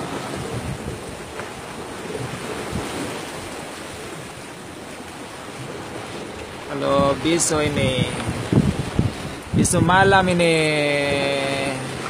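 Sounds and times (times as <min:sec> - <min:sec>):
waves washing: 0:00.0 - 0:12.0
wind buffeting microphone: 0:00.0 - 0:12.0
wind over open sea: 0:00.0 - 0:12.0.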